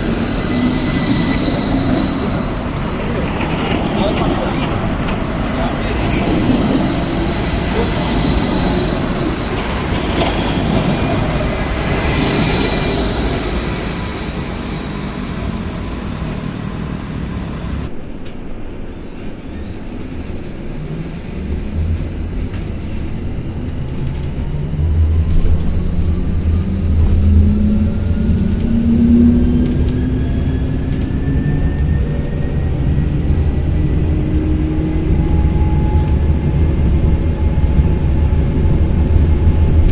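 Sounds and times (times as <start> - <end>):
tram running on rails: 0.0 - 39.9.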